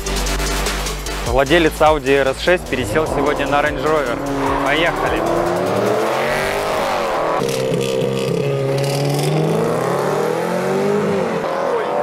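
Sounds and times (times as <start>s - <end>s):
very loud exhaust: 0.1s - 11.7s
cars accelerating hard: 1.3s - 12.0s.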